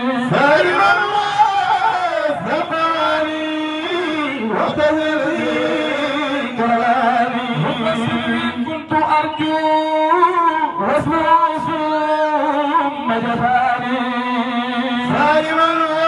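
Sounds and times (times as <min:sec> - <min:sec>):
men chanting devotional verses: 0:00.0 - 0:16.0.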